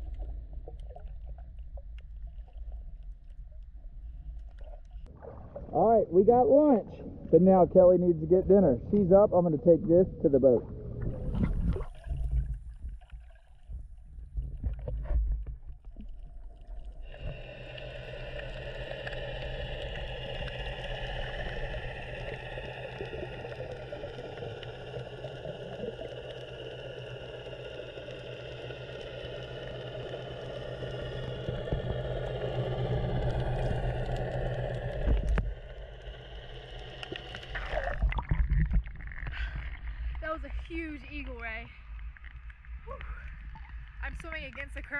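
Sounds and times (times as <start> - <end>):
boat motor underwater: 0.0 - 44.9
low hum: 0.0 - 44.9.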